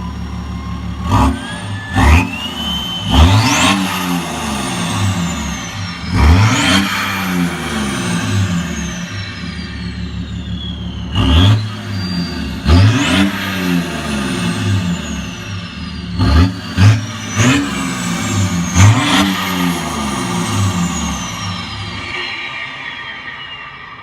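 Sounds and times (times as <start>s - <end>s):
diesel car engine revving: 0.0s - 24.0s
high whistle winding down: 0.0s - 24.0s.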